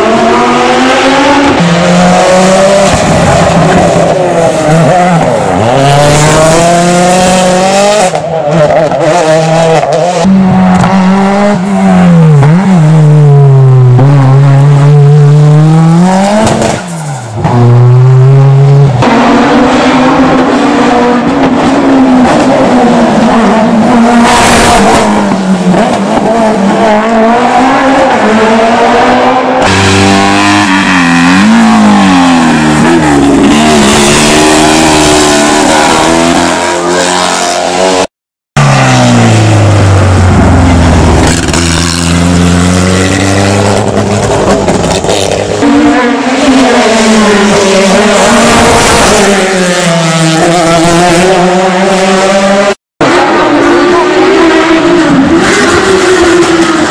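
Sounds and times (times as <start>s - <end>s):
race car engines at full throttle: 0.0s - 56.9s.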